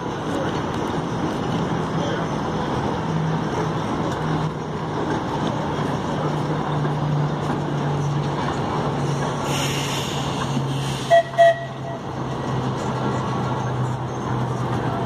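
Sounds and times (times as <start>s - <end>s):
streetcars and road traffic: 0.0s - 15.0s.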